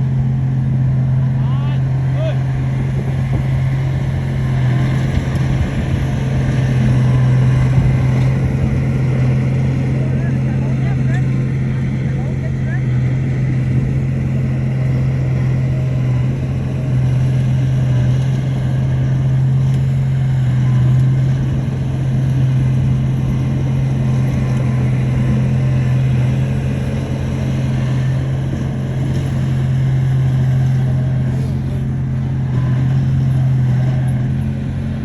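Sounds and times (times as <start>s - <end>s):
heavy diesel engine drone: 0.0s - 35.0s.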